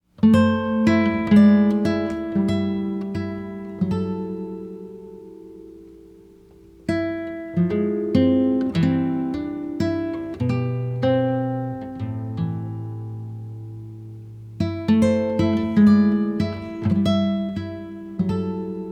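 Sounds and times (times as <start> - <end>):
acoustic guitar plucked notes: 0.2 - 18.9.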